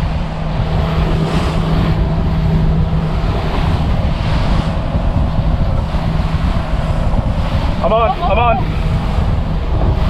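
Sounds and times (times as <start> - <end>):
outboard motor hum: 0.0 - 10.0
water rushing past hull: 0.0 - 10.0
wind buffeting microphone: 0.0 - 10.0.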